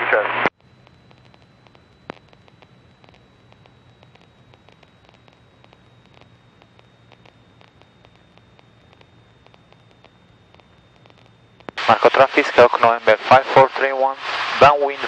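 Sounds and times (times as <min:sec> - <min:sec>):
radio static crackling: 0:00.0 - 0:15.0
low hum: 0:00.5 - 0:15.0
steady high-pitched tone: 0:00.6 - 0:15.0.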